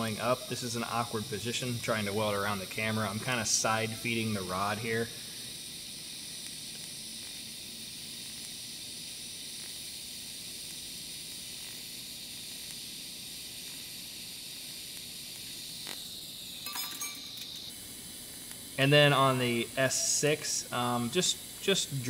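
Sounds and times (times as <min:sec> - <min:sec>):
welding arc hiss: 0:00.0 - 0:22.0.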